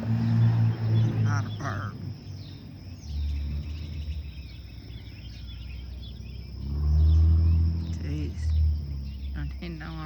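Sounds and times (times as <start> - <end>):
birds chirping: 0.0 - 10.0
passing vehicle engine rumble: 0.0 - 10.0.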